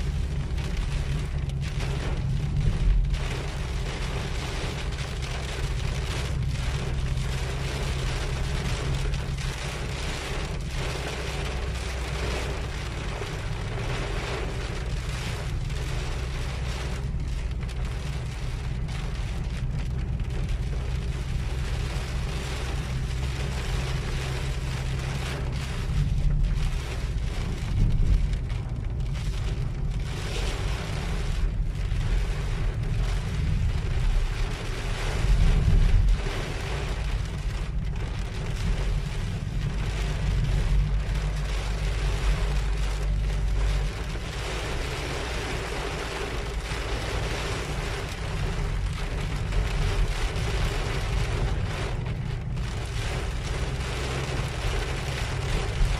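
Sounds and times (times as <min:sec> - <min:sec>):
car road rumble: 0:00.0 - 0:55.9
heavy rain on car roof: 0:00.0 - 0:55.9.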